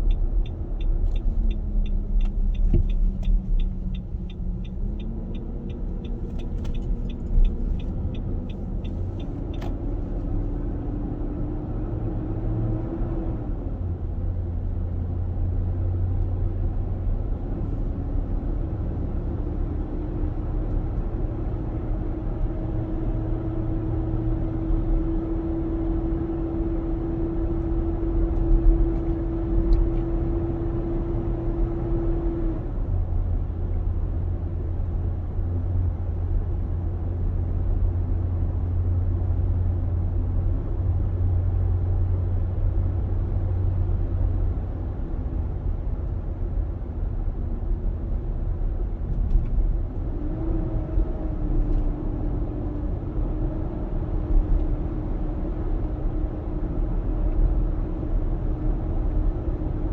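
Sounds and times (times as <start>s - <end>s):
engine low rumble: 0.0s - 59.9s.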